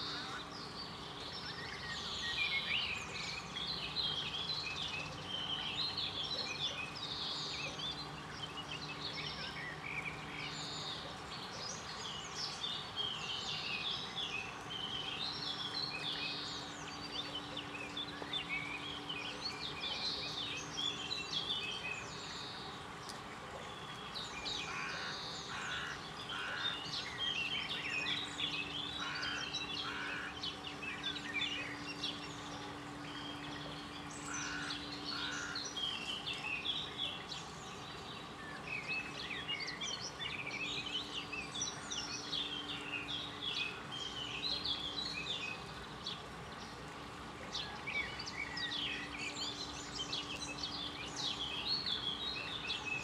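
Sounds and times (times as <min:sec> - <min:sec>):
lower heavier bird calls: 0:00.0 - 0:46.8
faint steady hum: 0:00.0 - 0:53.0
small birds chirping: 0:00.0 - 0:53.0.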